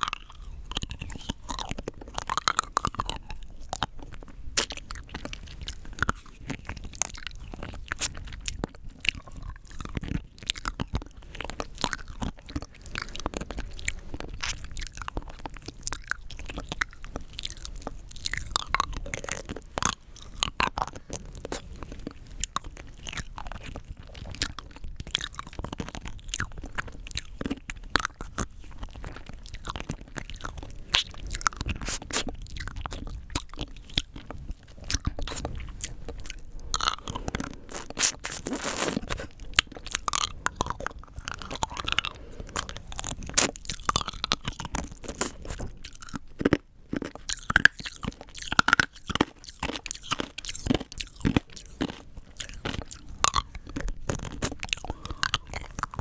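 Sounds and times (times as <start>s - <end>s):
hard candy crunching between teeth: 0.0s - 56.0s.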